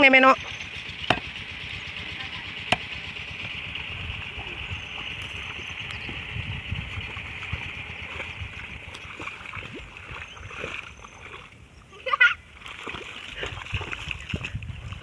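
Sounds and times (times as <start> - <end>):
wet mud sloshing: 0.3 - 15.0.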